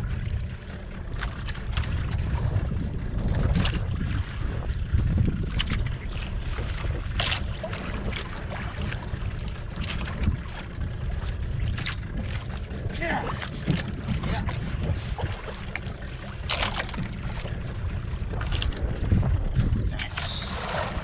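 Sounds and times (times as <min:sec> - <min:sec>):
water slapping against hull: 0:00.0 - 0:21.0
wind rumbling on microphone: 0:00.0 - 0:21.0.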